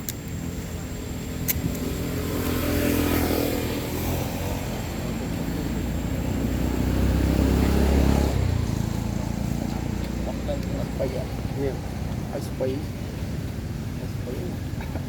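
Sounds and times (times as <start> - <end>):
vehicle engines passing: 0.0 - 15.0.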